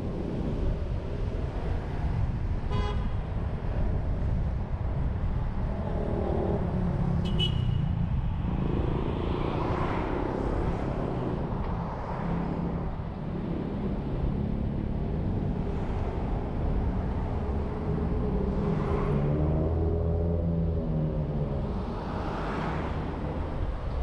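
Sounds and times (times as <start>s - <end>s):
car engine and tyre rumble: 0.0s - 24.0s
city traffic: 0.0s - 24.0s.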